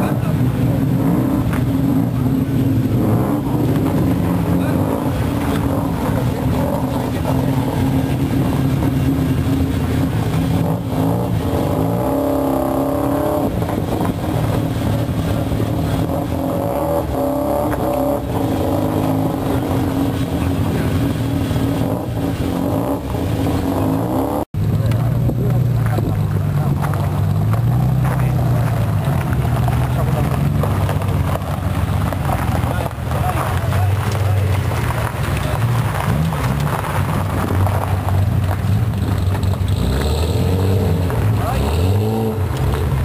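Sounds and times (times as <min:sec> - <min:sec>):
car engine revving: 0:00.0 - 0:43.0
loud car exhausts pulling away: 0:00.0 - 0:43.0.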